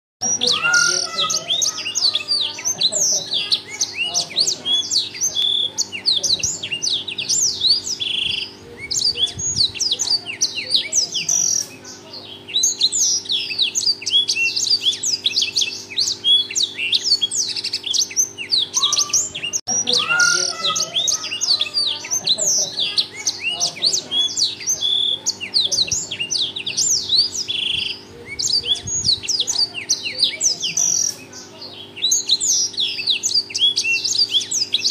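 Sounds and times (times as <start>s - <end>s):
canary singing high twittering phrases: 0.2s - 34.9s
faint steady hum: 0.2s - 34.9s.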